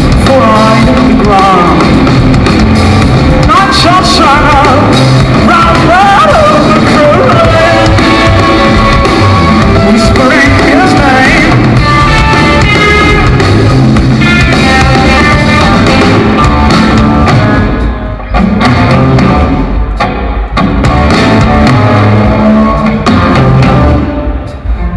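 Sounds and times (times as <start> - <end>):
electric guitar notes bending: 0.0 - 24.9
live rock band playing: 0.0 - 24.9.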